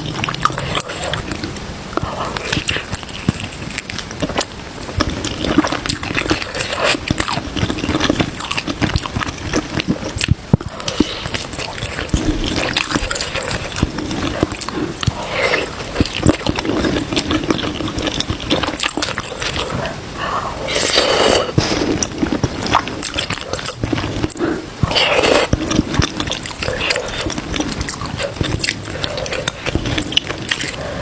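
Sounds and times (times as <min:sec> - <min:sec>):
slurps: 0:00.0 - 0:31.0
wet chewing and lip-smacking: 0:00.0 - 0:31.0.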